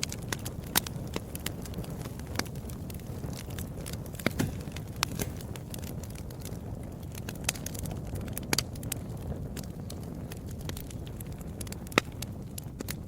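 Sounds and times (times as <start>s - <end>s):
low rumble of flames: 0.0s - 13.0s
sharp pops of fire: 0.0s - 13.0s
wood fire crackling: 0.0s - 13.0s.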